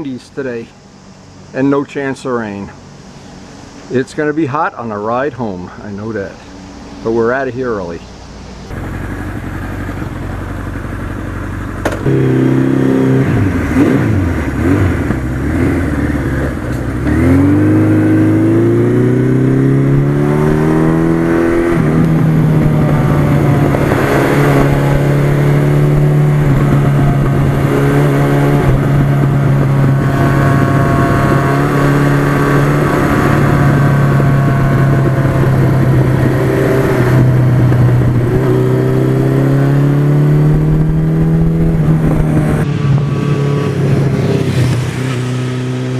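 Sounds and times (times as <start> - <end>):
motorcycle engine accelerating: 8.7 - 45.9.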